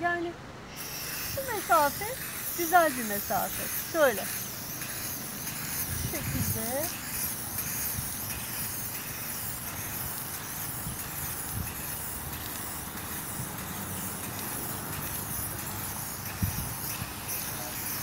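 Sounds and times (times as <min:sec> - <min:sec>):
aerosol spray can hissing: 0:00.7 - 0:18.0.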